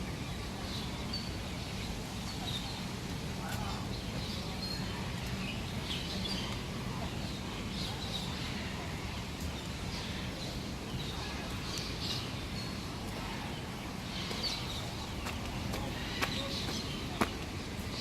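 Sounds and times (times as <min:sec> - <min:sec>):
low background noise: 0:00.0 - 0:18.0
birds chirping and calling: 0:00.7 - 0:18.0.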